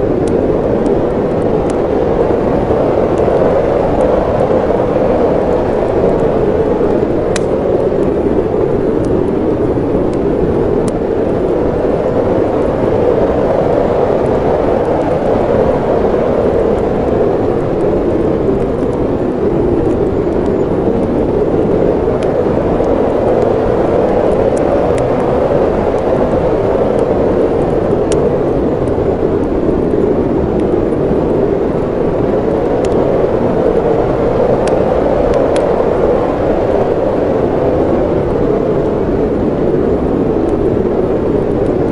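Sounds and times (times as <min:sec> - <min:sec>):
wind blowing in a deep rush: 0:00.0 - 0:41.9
wood fire crackling: 0:00.0 - 0:41.9.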